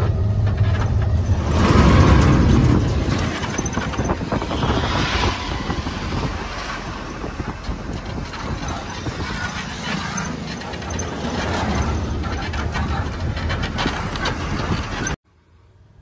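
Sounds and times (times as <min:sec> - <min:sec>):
engine and tyre rumble: 0:00.0 - 0:16.0
wind rushing: 0:01.2 - 0:15.2.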